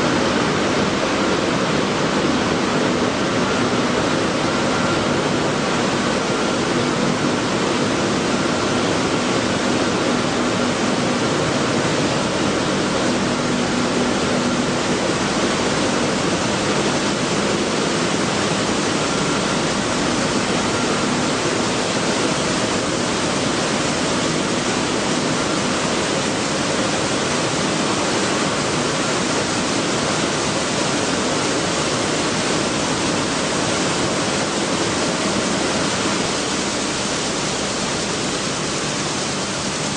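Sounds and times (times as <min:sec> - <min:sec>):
flour mill machinery running: 0:00.0 - 0:39.9.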